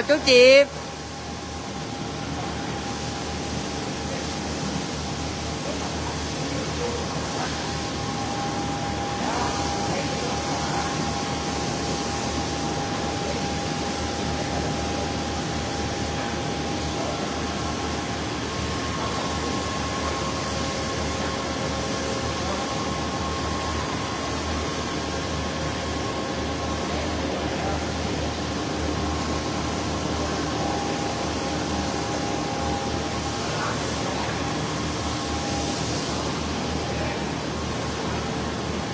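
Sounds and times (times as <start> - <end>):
mechanical air noise: 0.0 - 38.9.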